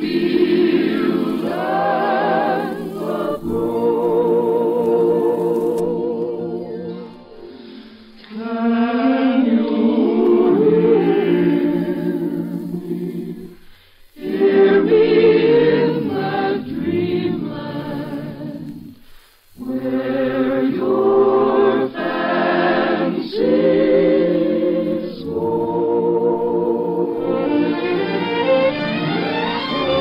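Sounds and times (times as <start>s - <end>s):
choir singing: 0.0s - 7.4s, 8.2s - 19.0s, 19.6s - 30.0s.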